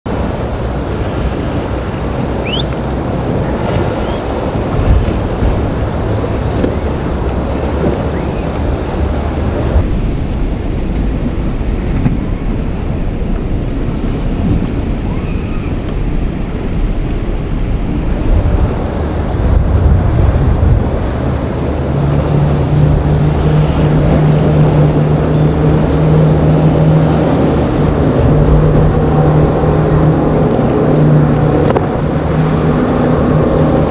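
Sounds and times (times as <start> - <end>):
boat engine drone: 0.1 - 33.9
waves breaking around boat hull: 0.1 - 33.9
wind buffeting microphone: 0.1 - 33.9.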